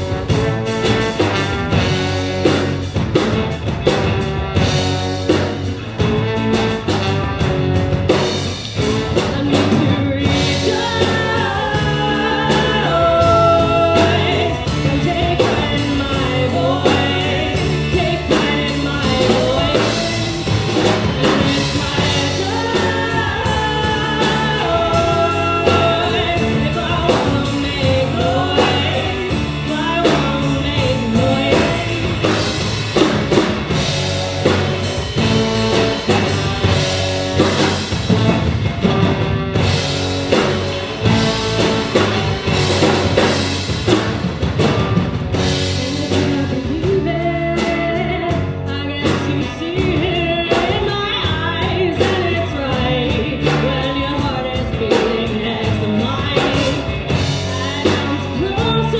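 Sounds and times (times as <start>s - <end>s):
drums steady beat: 0.0s - 58.9s
lead singer singing: 0.0s - 58.9s
rock band playing live: 0.0s - 58.9s.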